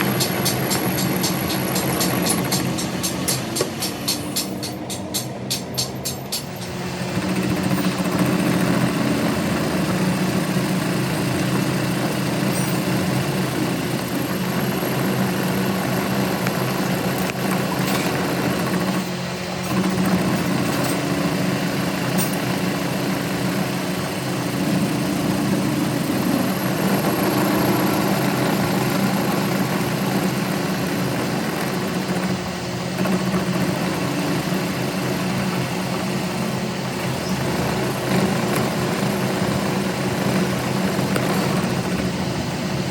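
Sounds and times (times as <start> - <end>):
workshop machine humming: 0.0 - 42.9.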